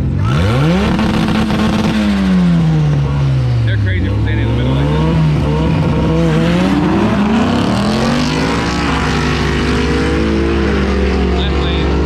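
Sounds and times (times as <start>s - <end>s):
car engines revving at full throttle: 0.0s - 12.0s.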